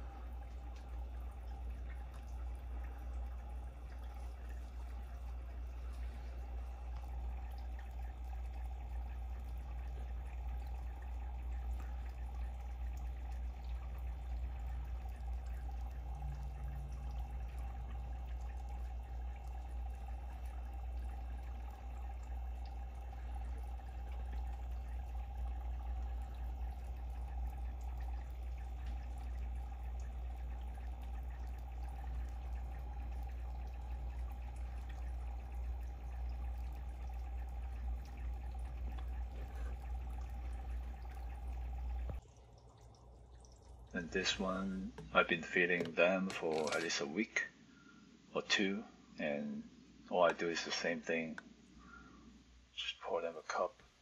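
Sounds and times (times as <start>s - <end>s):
water trickling and bubbling: 0.0s - 47.2s
constant low hum: 0.0s - 54.0s.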